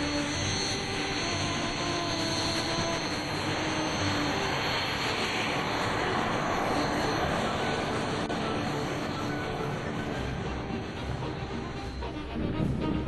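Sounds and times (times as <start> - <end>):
jet taxiing with whining rush: 0.0 - 13.0.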